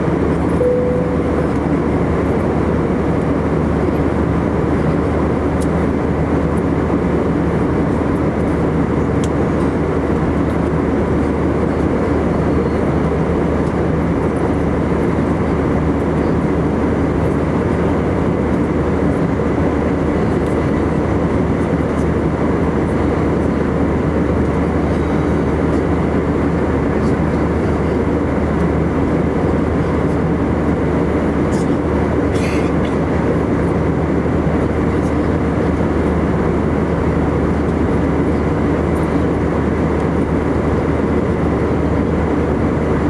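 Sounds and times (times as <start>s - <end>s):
airplane cabin roar: 0.0s - 43.0s.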